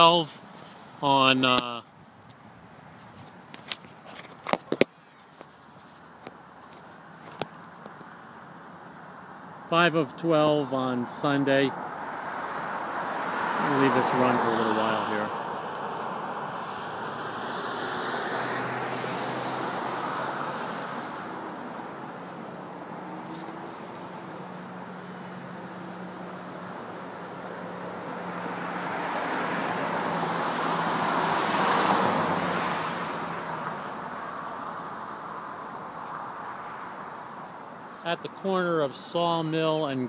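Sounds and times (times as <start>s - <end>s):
cars passing by: 0.0s - 40.0s.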